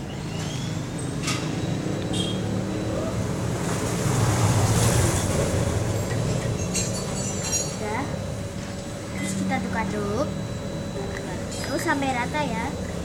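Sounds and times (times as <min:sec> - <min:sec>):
passing motor vehicle rumble: 0:00.0 - 0:10.8.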